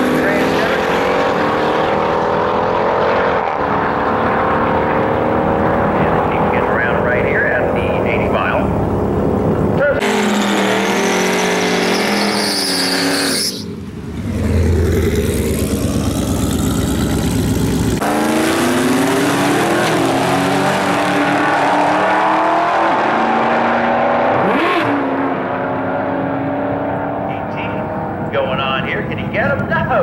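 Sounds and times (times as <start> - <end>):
engines revving: 0.0 - 30.0.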